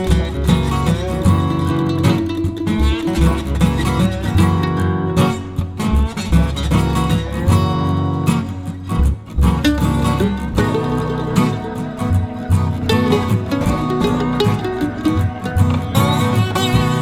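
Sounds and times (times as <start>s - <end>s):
steady beat: 0.0s - 7.9s, 8.9s - 17.0s
acoustic guitar strumming: 0.0s - 17.0s.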